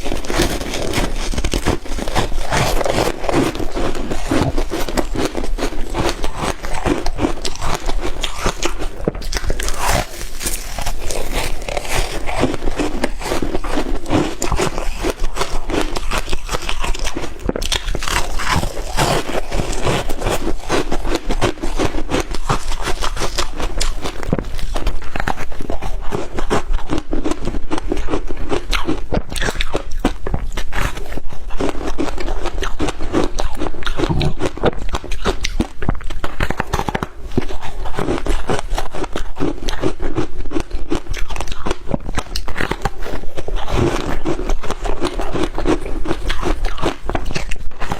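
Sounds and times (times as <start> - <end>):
ice crunching while chewed: 0.0 - 47.9.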